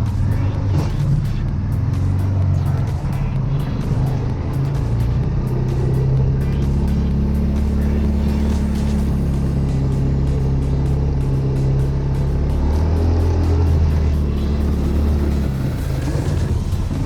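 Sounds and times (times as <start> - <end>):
single-cylinder engine running: 0.0 - 17.0.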